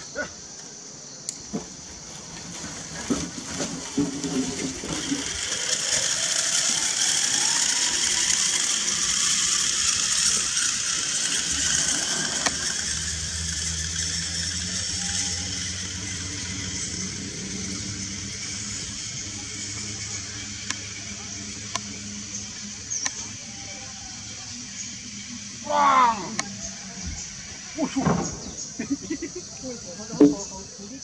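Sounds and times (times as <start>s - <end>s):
cable line whirring hiss: 0.0s - 30.6s
steady low hum: 0.0s - 31.0s.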